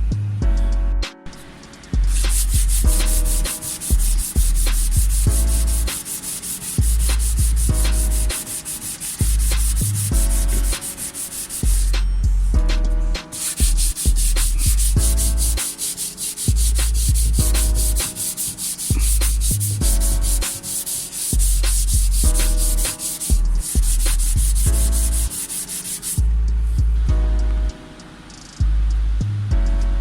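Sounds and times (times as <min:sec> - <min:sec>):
background music with beat: 0:00.0 - 0:30.0.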